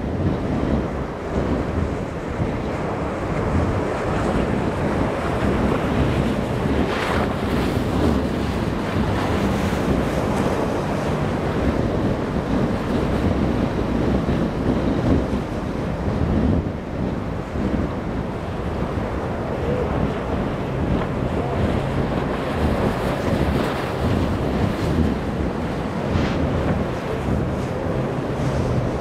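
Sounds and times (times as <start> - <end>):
boat engine running: 0.0 - 29.0
rush of water: 0.0 - 29.0
wind buffeting microphone: 0.0 - 29.0
surf breaking: 0.2 - 29.0.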